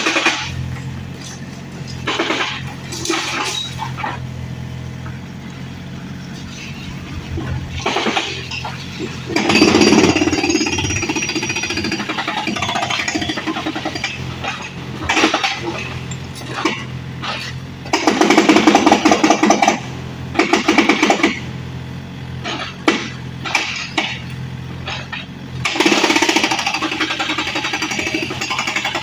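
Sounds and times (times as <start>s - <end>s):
excavator engine running: 0.0s - 29.0s.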